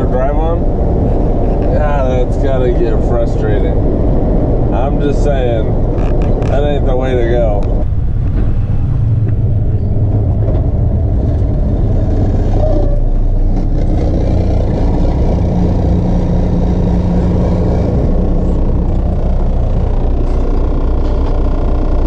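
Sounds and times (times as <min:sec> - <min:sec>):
heavy truck engine hum: 0:00.0 - 0:22.0
road rumble: 0:00.0 - 0:22.0.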